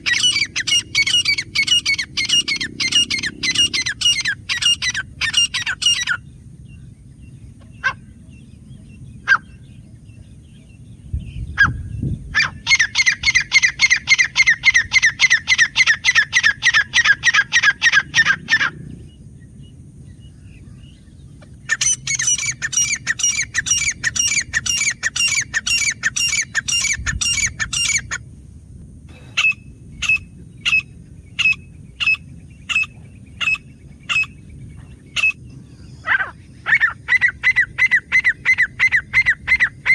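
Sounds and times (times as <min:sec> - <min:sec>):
francolin calling: 0:00.0 - 0:06.8, 0:07.6 - 0:28.2, 0:29.1 - 0:39.9.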